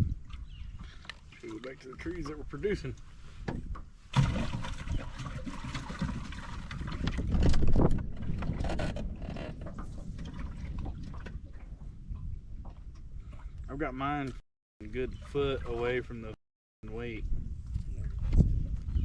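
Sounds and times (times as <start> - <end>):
rushing wind and water: 0.0 - 19.0.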